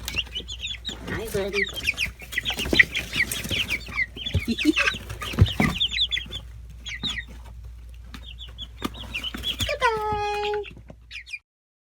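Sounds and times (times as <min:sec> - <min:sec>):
chicks peeping: 0:00.0 - 0:11.4.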